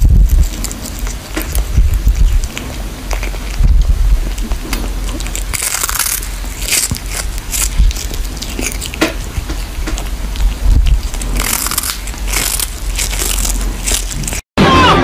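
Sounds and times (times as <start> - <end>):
animal chewing crunchy food: 0.0 - 14.5.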